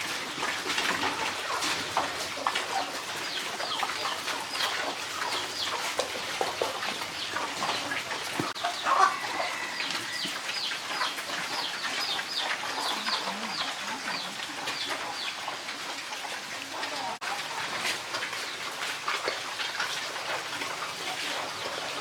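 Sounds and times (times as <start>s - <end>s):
chickens cheeping: 0.2s - 18.7s.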